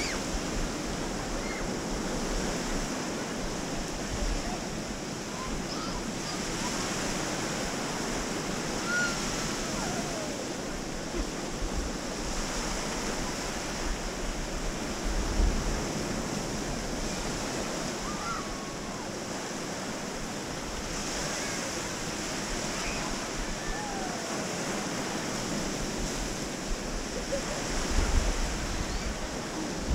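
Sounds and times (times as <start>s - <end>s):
waves washing onto beach: 0.0s - 29.9s
wind rumble on microphone: 0.0s - 29.9s.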